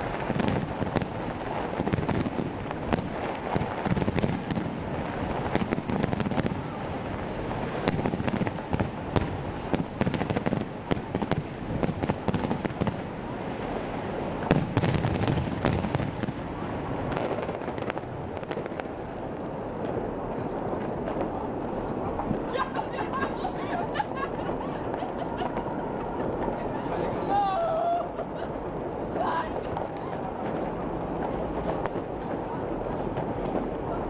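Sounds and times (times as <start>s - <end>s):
fireworks bangs and pops: 0.0s - 34.0s.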